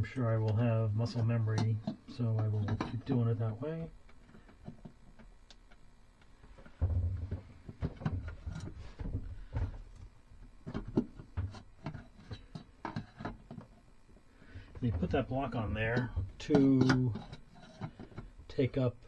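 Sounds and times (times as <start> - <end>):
small knocks clicks and thuds: 0.0 - 18.6.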